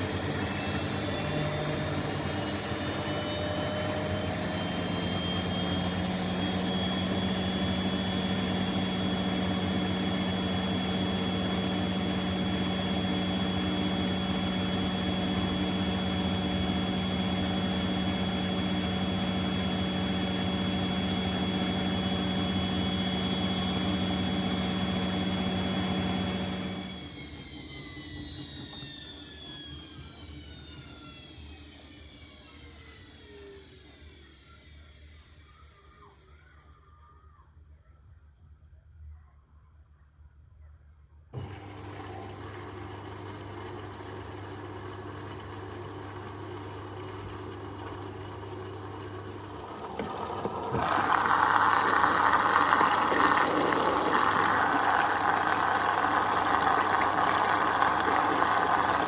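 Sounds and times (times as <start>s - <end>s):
washing machine spinning: 0.0s - 34.1s, 41.4s - 59.0s.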